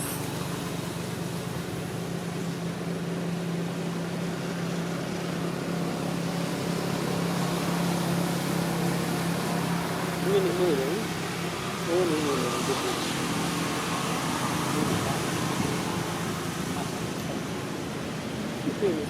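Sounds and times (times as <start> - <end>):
steady motor hum: 0.0 - 19.0.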